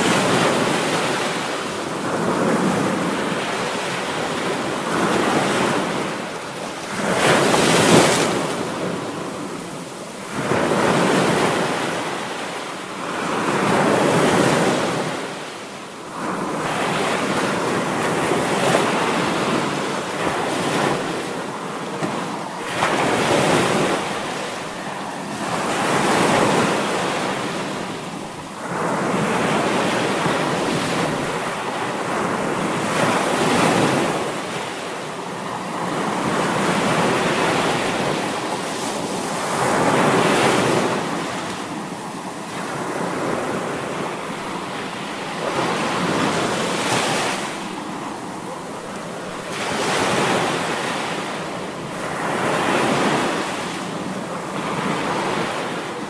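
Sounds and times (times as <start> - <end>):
ocean waves crashing: 0.0 - 56.0.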